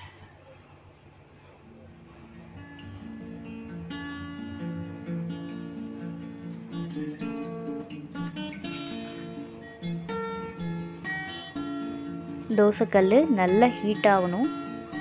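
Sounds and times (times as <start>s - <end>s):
plucked acoustic guitar music: 2.0s - 15.0s.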